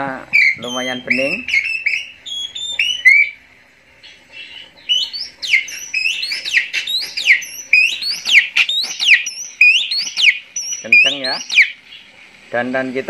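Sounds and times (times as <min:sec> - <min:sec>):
recorded songbird song through speaker: 0:00.0 - 0:03.4, 0:04.0 - 0:13.0.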